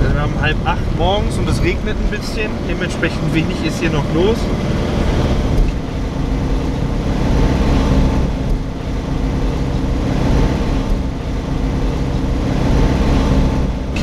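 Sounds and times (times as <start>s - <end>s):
motorhome engine running: 0.0s - 14.0s
road noise: 0.0s - 14.0s.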